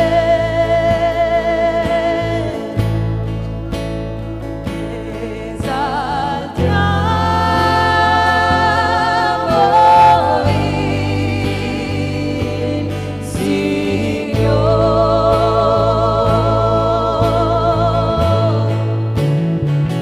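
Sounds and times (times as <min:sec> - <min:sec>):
voice singing with vibrato: 0:00.0 - 0:03.0, 0:04.7 - 0:19.1
worship music with bass and beat: 0:00.0 - 0:20.0.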